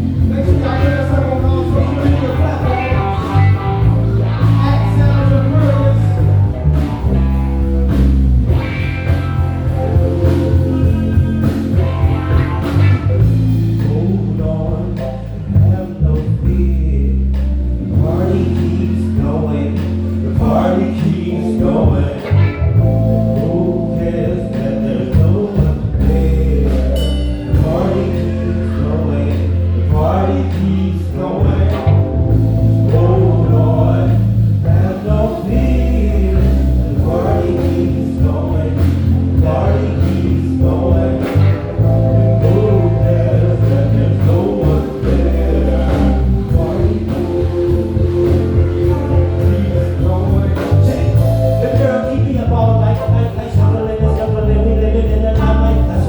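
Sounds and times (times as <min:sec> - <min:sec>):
drums keeping time: 0:00.0 - 0:56.0
electric bass: 0:00.0 - 0:56.0
keys playing melody: 0:00.0 - 0:56.0.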